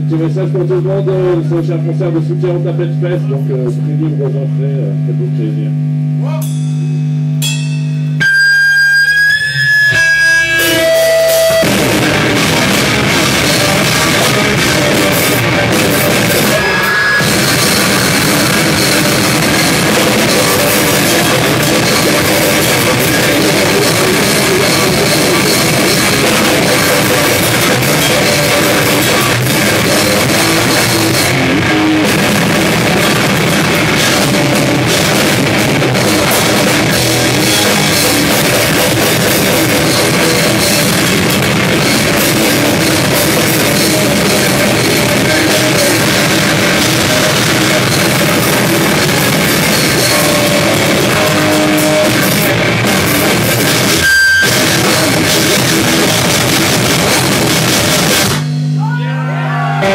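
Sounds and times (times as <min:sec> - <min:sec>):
sustained guitar tones: 0:00.0 - 0:59.9
live rock band playing: 0:08.0 - 0:59.9.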